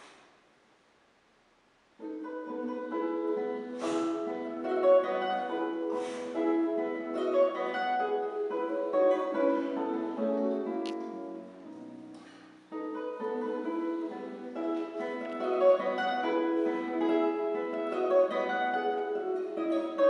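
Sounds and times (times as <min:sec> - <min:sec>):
classical guitar playing: 0:02.0 - 0:20.0.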